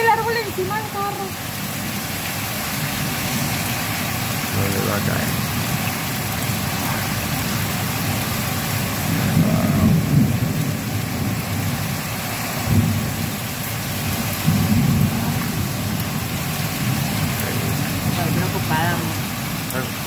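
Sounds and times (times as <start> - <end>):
heavy rain pouring: 0.0 - 20.0
thunder rumbles: 3.0 - 20.0.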